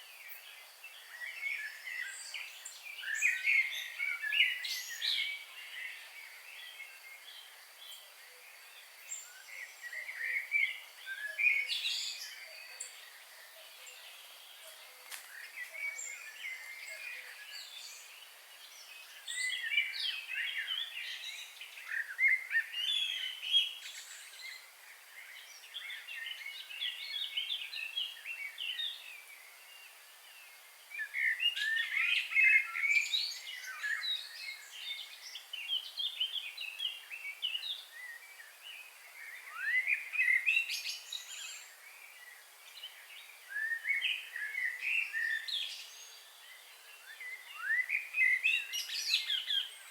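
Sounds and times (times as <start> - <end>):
faint background hiss: 0.0 - 49.9
songbirds chirping and warbling: 0.0 - 49.9.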